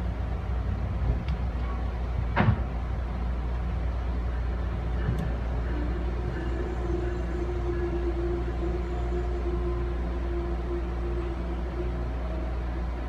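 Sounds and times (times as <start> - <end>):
steady humming tone: 0.0 - 13.0
train wheels rumbling on rail: 0.0 - 13.0.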